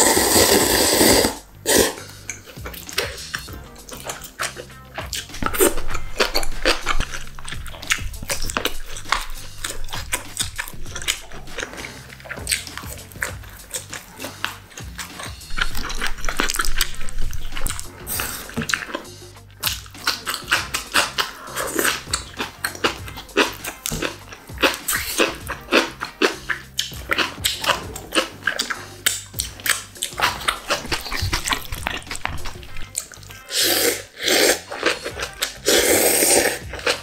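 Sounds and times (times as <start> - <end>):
background music: 0.0 - 37.0
noodles slurped and chewed: 0.0 - 37.0
wet mouth smacks and clicks: 0.3 - 27.8, 28.4 - 37.0.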